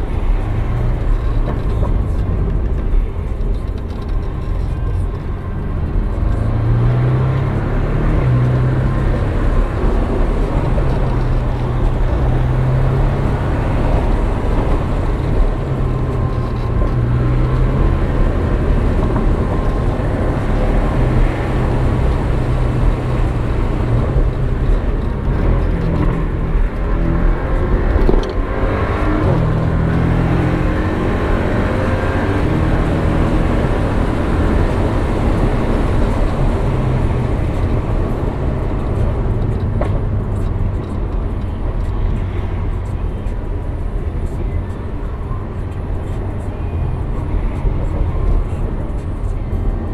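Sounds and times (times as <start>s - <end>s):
car engine revving: 0.0s - 49.9s
road and tyre noise: 0.0s - 49.9s.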